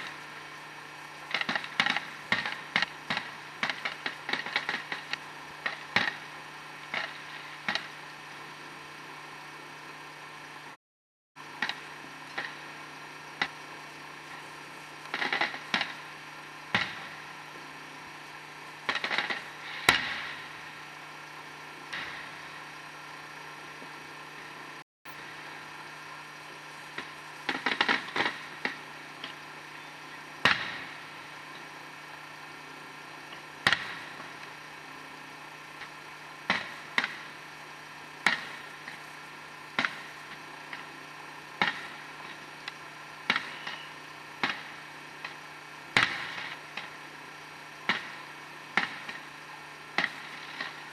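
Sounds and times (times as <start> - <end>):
fireworks popping and crackling: 0.0 - 10.8, 11.4 - 50.9
steady low hum: 0.0 - 10.8, 11.4 - 50.9.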